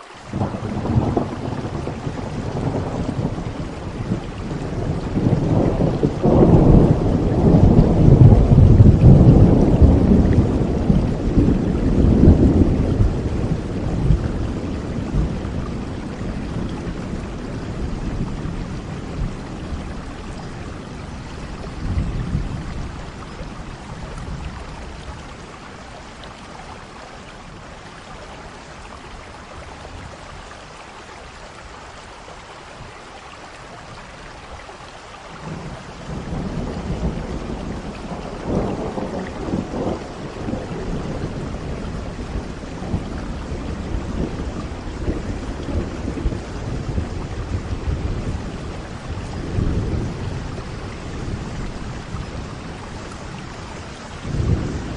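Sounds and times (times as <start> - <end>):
steady rain: 0.0 - 54.9
rolling thunder: 0.3 - 26.1, 35.4 - 54.9.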